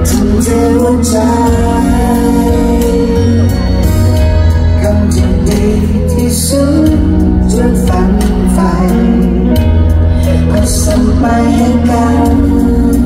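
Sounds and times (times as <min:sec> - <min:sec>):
loud live band music: 0:00.0 - 0:13.0.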